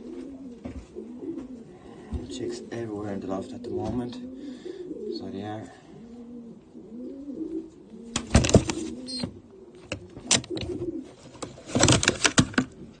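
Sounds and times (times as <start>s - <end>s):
pigeons cooing: 0.0s - 11.3s.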